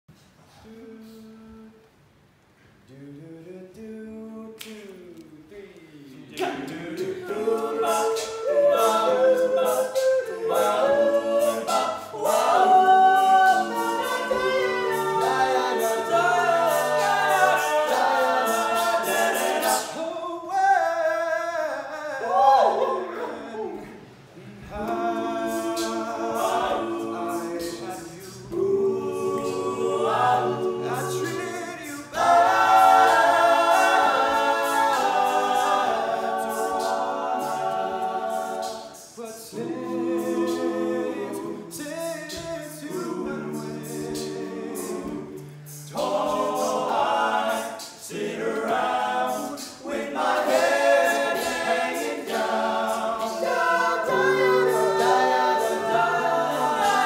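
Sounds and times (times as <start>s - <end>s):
male a cappella group singing: 0.5s - 1.9s, 2.9s - 57.0s.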